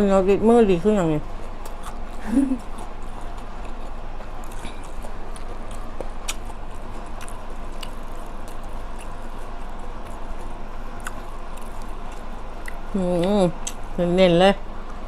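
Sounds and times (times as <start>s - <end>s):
low background hum: 0.0s - 15.0s
chewing: 1.2s - 14.0s.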